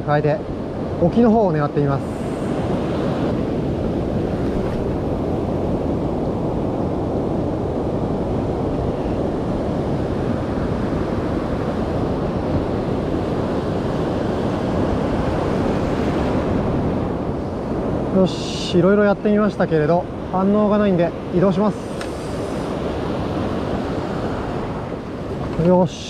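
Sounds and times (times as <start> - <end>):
surf washing on beach: 0.0 - 26.0
wind buffeting microphone: 0.0 - 26.0.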